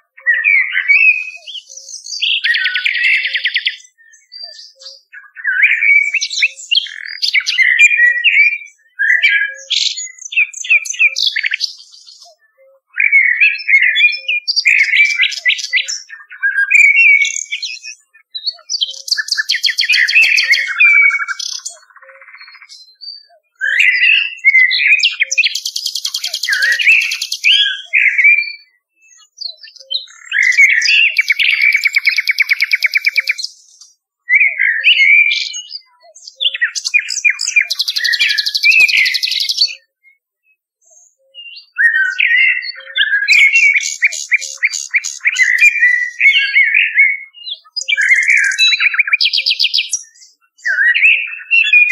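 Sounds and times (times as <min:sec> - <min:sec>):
nightingale singing: 0:00.0 - 0:51.9.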